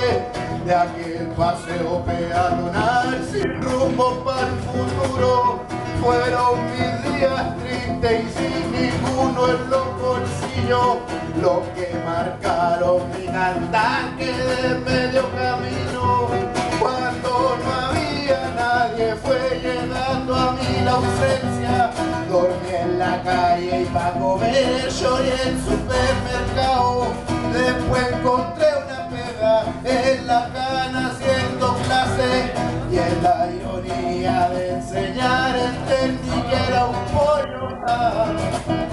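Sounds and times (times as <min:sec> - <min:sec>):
acoustic guitar: 0:00.0 - 0:38.9
man singing: 0:00.0 - 0:38.9.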